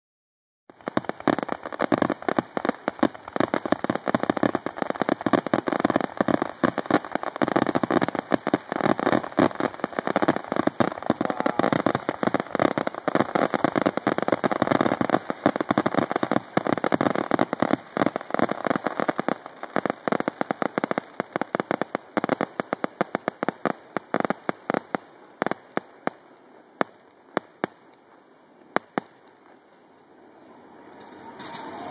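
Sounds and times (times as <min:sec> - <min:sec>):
fireworks bursting: 0:00.7 - 0:31.9.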